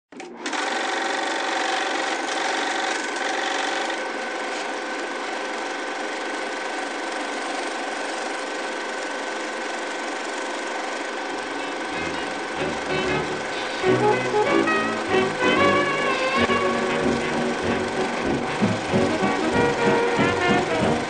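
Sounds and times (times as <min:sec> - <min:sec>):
film projector rattling: 0:00.2 - 0:21.0.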